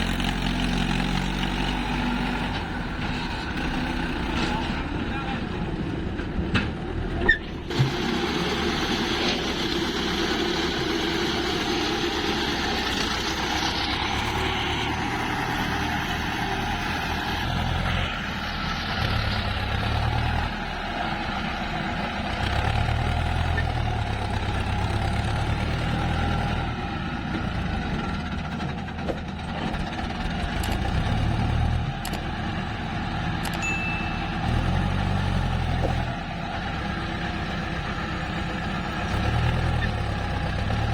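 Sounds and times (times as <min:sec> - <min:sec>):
diesel excavator engine running: 0:00.0 - 0:40.9
tractor engine running: 0:00.0 - 0:40.9.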